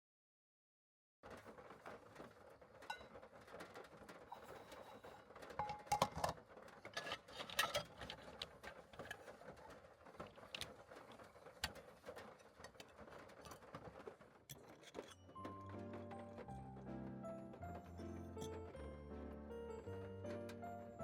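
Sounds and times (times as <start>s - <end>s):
small clicks and knocks: 1.3s - 19.0s.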